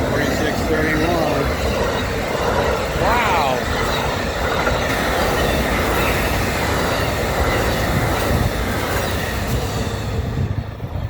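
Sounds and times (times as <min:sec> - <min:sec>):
train wheels rushing on rails: 0:00.0 - 0:11.0.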